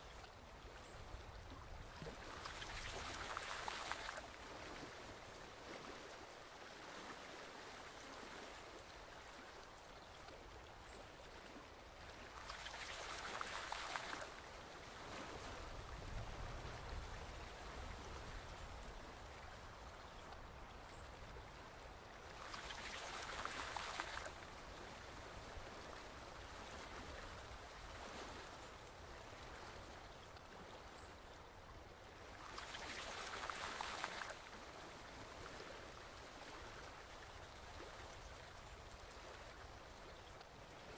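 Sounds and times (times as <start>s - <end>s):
forest stream flowing: 0.0s - 40.9s.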